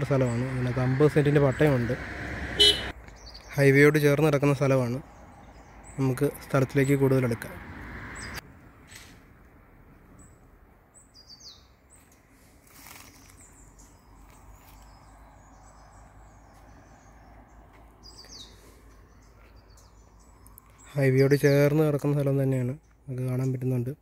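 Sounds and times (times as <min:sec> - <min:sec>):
birds chirping: 0:00.0 - 0:08.4, 0:10.1 - 0:12.4, 0:13.0 - 0:24.0
low outdoor background noise: 0:00.0 - 0:24.0.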